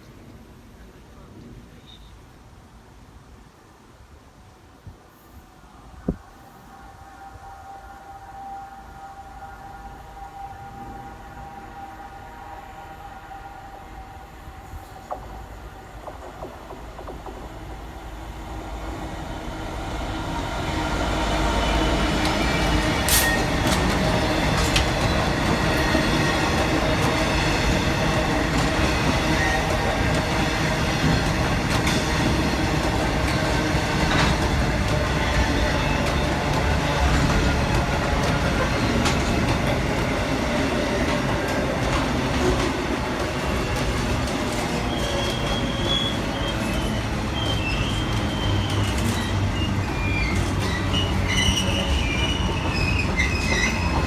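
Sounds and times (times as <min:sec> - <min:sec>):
freight train rumbling past: 0:04.4 - 0:54.0.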